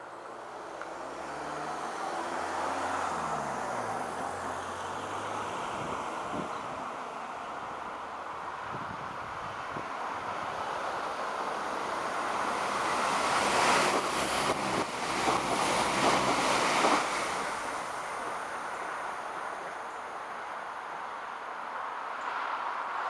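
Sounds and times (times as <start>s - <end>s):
train passing by: 0.0s - 21.0s.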